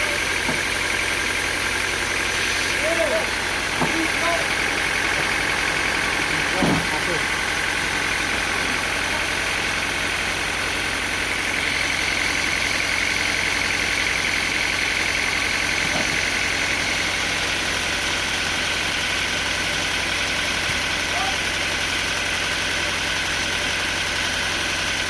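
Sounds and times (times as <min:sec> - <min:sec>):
sawmill machinery humming: 0:00.0 - 0:25.0.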